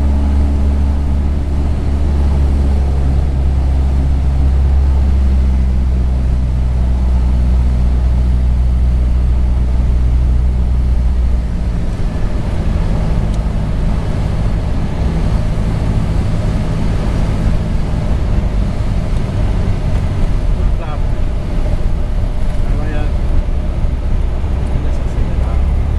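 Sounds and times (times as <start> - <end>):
airplane engine and propeller drone: 0.0 - 25.9.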